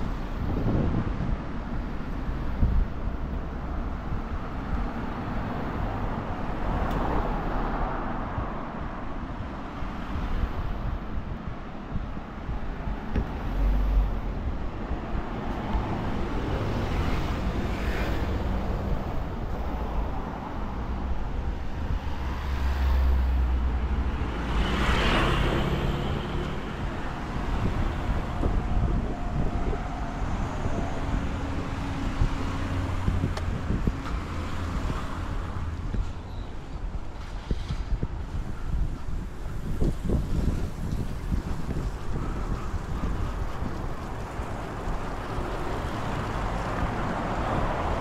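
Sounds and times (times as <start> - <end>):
road traffic passing: 0.0 - 48.0.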